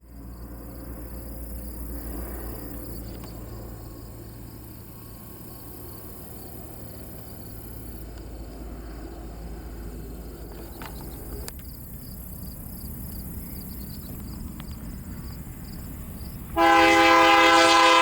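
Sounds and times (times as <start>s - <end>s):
insects chirping: 0.1s - 18.0s.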